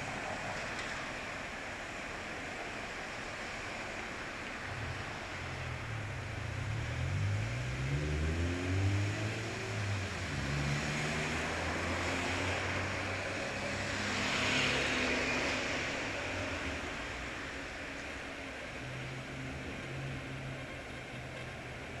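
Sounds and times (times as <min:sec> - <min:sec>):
car passing with tyre hiss: 0:00.0 - 0:22.0
vehicle engines accelerating: 0:04.4 - 0:22.0.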